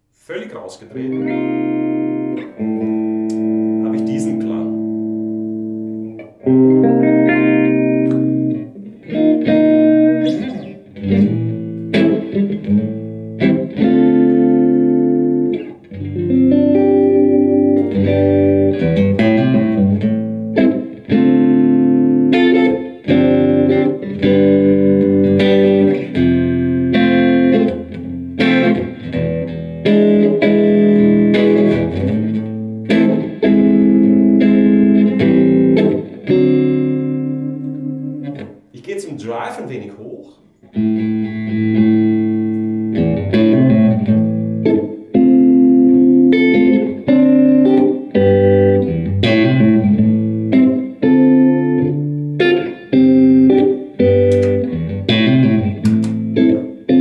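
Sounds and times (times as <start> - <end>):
clean electric guitar chords: 1.0 - 38.7, 39.8 - 57.0.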